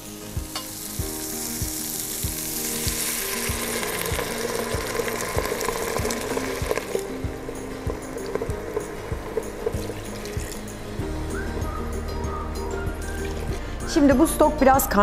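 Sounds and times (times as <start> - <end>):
stock sizzling in a hot pot: 0.0 - 15.0.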